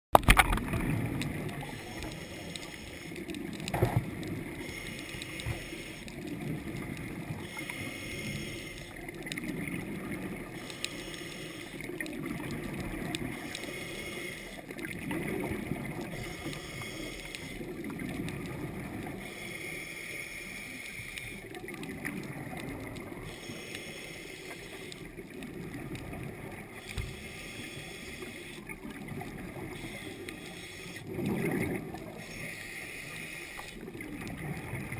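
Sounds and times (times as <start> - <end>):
faint bubbling: 0.2 - 34.9
muffled underwater rumble: 0.2 - 34.9.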